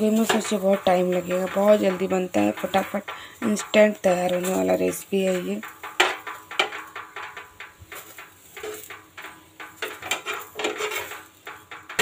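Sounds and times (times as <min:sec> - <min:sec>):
metal spatula scraping a griddle: 0:00.0 - 0:12.0.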